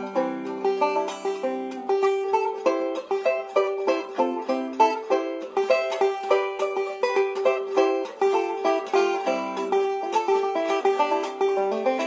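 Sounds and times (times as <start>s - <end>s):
plucked-string tune: 0.0s - 12.0s.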